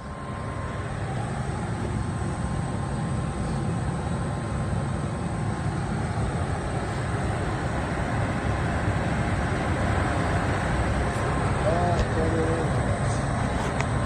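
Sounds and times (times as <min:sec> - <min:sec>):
furnace blower running: 0:00.0 - 0:14.0.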